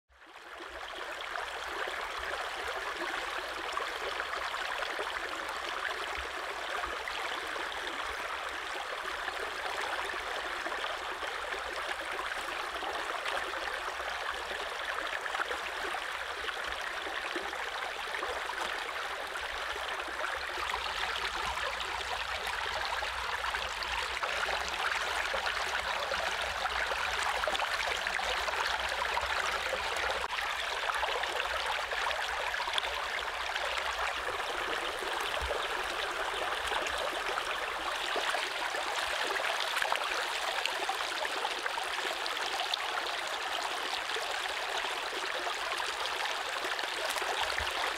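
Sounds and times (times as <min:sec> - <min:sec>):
stream running over rocks: 0:00.6 - 0:47.9.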